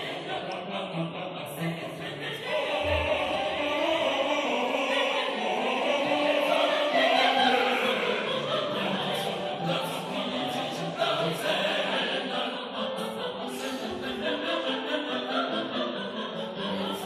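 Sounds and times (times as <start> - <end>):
mixed choir singing: 0.0 - 17.0.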